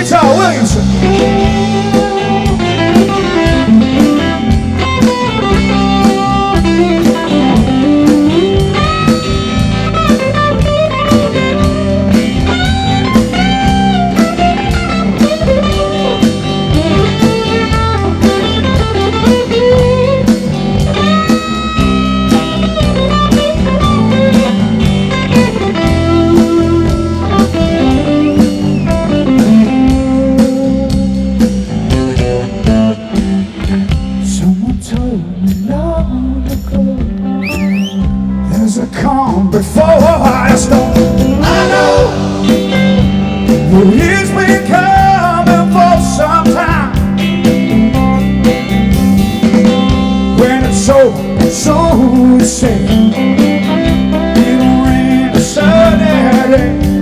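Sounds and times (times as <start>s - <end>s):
electric guitar solo: 0.0s - 34.1s, 40.2s - 57.0s
drum kit: 0.0s - 57.0s
rock band playing live: 0.0s - 57.0s.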